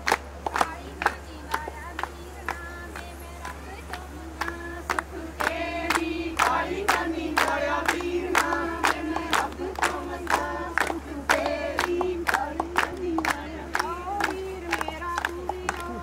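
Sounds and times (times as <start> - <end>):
voices singing: 0.0 - 16.0.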